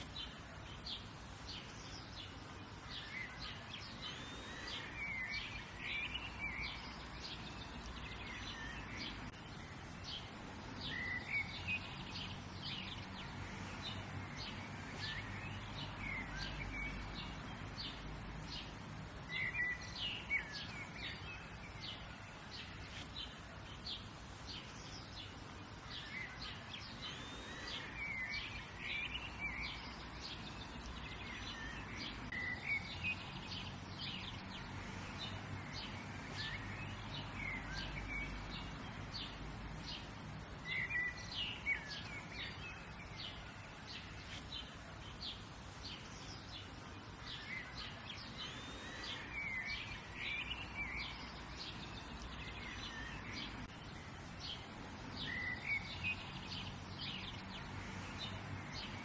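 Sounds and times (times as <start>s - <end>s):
birds chirping and singing: 0.0s - 59.0s
outdoor background hiss: 0.0s - 59.0s.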